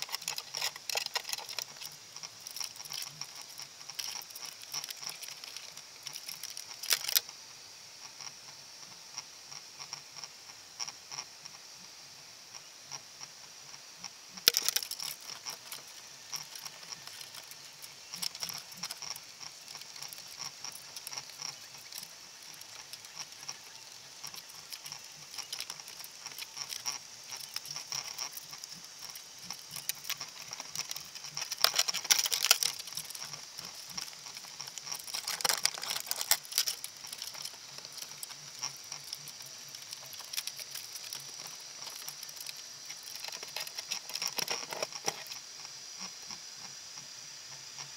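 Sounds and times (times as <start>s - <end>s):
steady high hiss: 0.0s - 47.9s.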